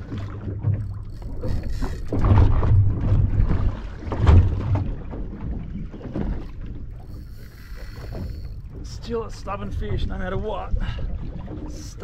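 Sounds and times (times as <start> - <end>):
water rumbling around boat: 0.0 - 12.0
wind: 0.0 - 12.0.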